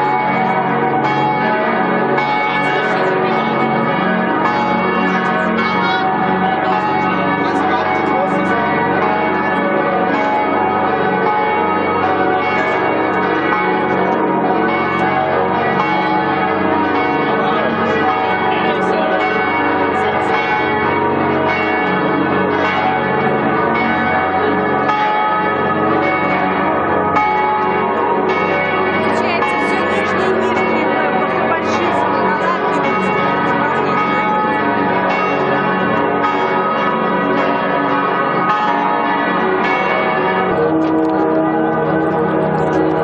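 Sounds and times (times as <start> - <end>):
church bells pealing: 0.0 - 43.0.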